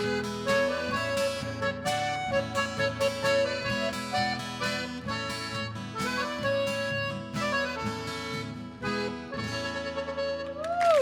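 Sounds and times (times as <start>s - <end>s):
accordion melody: 0.0s - 10.7s
acoustic guitar accompaniment: 0.0s - 11.0s.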